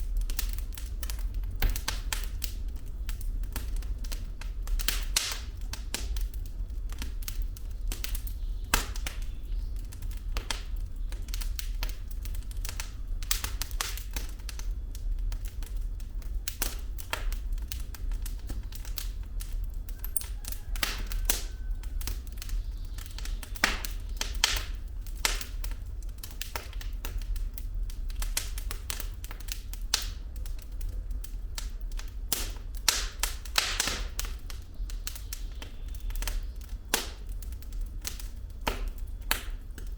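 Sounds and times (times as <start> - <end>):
low rumble of flames: 0.0 - 39.9
wood fire crackling: 0.0 - 39.9
logs snapping and popping: 0.2 - 14.7, 16.5 - 39.9.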